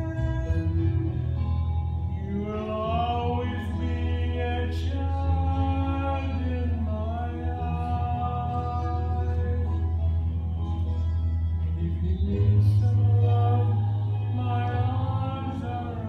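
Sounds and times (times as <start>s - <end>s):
man singing slow song: 0.0s - 10.5s, 11.6s - 16.0s
musical accompaniment: 0.0s - 16.0s.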